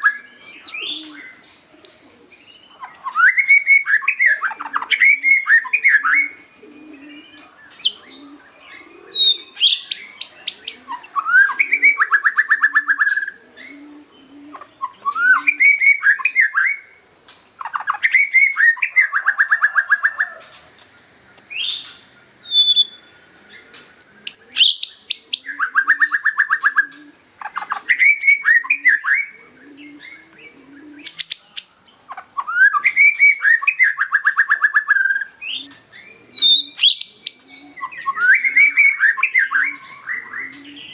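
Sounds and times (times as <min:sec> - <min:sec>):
bird singing whistles and trill: 0:00.0 - 0:16.9, 0:17.6 - 0:20.3, 0:21.5 - 0:23.1, 0:23.9 - 0:31.8, 0:32.4 - 0:40.9.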